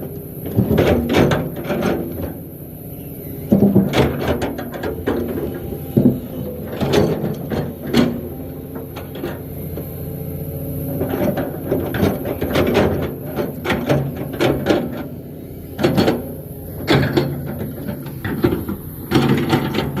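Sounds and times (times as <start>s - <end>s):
excavator engine running: 0.0s - 20.0s
machine clanks and knocks: 0.5s - 2.4s, 3.5s - 9.5s, 10.9s - 15.2s, 15.8s - 20.0s.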